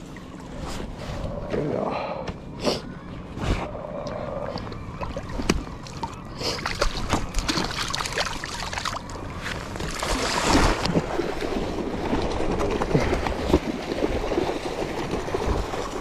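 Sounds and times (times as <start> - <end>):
water splashing and sloshing: 0.0 - 2.6, 3.2 - 16.0.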